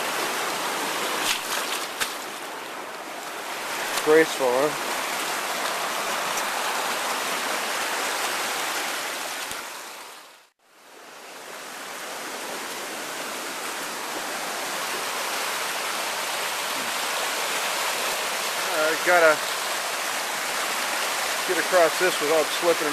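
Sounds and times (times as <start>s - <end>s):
stream rushing: 0.0s - 22.9s.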